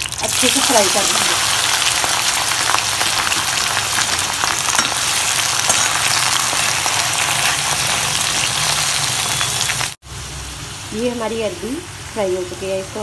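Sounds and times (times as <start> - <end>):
root sticks frying in oil: 0.0 - 13.0.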